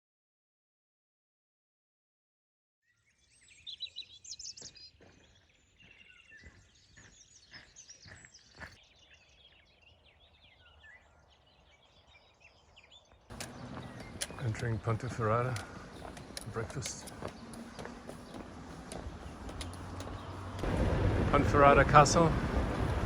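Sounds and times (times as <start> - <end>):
small birds chirping: 2.8 - 23.0.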